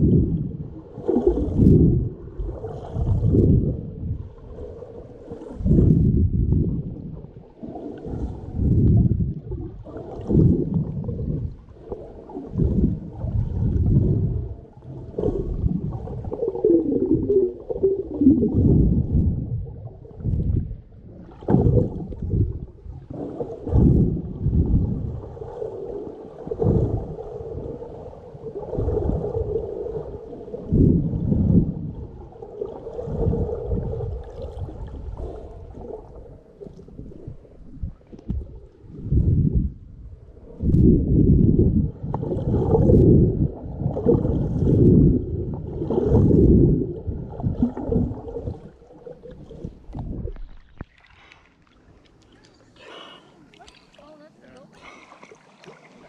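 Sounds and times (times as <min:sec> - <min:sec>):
underwater water gurgling: 0:00.0 - 0:56.0.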